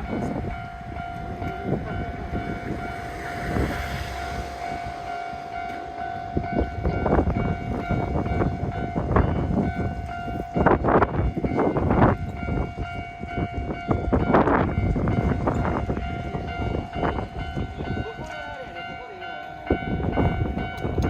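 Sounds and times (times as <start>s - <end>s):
crossing warning bell ringing: 0.0s - 21.0s.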